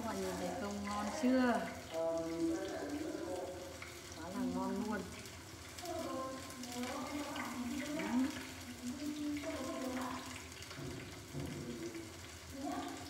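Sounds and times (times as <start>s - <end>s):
meat frying in hot oil: 0.0s - 13.0s.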